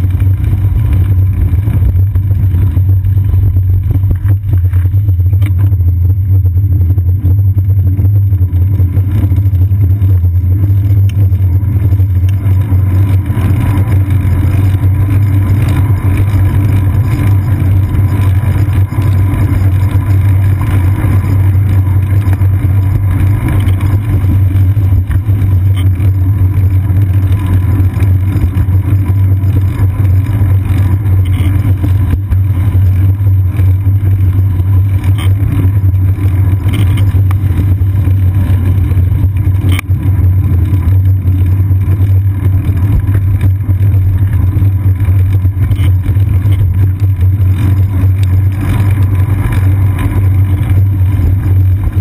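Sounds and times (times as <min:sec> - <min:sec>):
bicycle rolling over wet pavement: 0:00.0 - 0:52.0.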